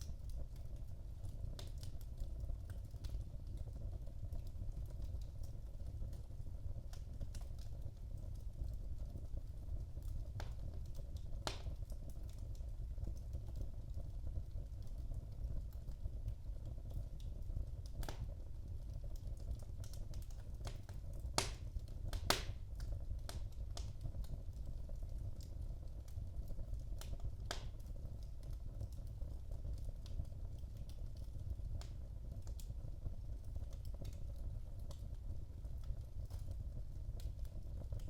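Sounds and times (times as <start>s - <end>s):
fire crackling and popping: 0.0s - 38.0s
fire flames rumbling: 0.0s - 38.0s.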